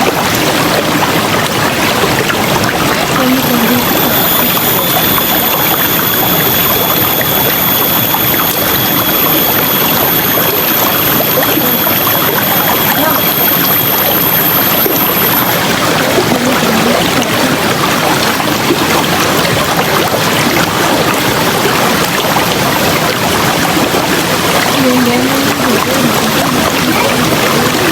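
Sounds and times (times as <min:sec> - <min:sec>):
river water flowing: 0:00.0 - 0:27.9.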